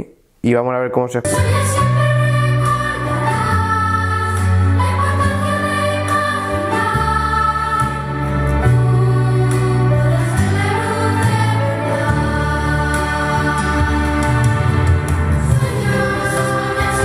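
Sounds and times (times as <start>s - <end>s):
choir singing held chords: 1.3s - 17.0s
orchestral film music: 1.3s - 17.0s.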